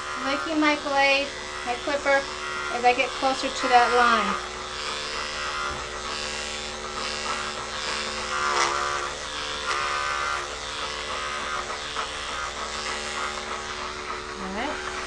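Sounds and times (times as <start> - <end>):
electric clipper buzzing: 0.0 - 15.0.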